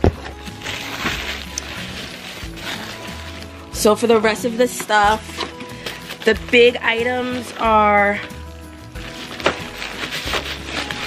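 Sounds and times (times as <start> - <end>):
bubble wrap rustling and crinkling: 0.0 - 11.0
quiet background music: 0.0 - 11.0.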